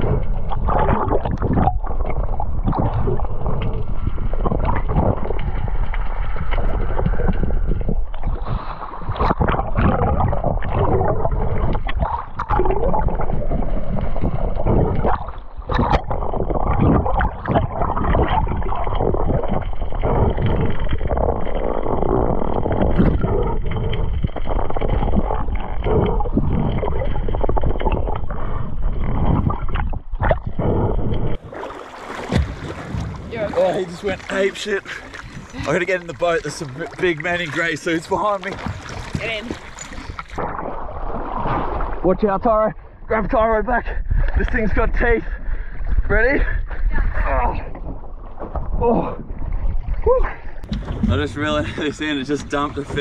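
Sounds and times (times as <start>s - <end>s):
underwater rushing and gurgling: 0.0s - 53.0s.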